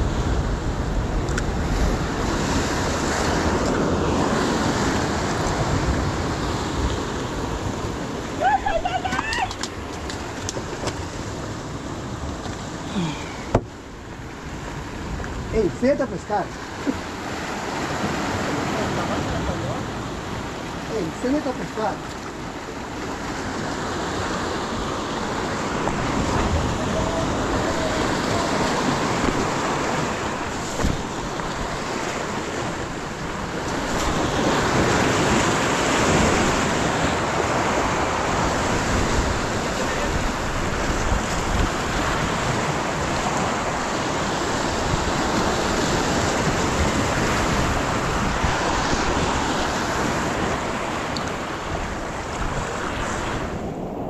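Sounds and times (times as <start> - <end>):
surf breaking over rocks: 0.0 - 54.0
wind buffeting microphone: 0.0 - 54.0.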